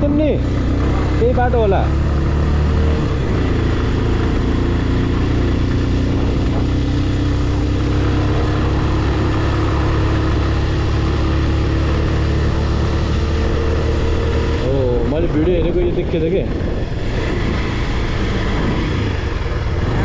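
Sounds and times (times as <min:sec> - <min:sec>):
motorcycle engine cruising: 0:00.0 - 0:20.0
wind rushing over microphone: 0:00.0 - 0:20.0.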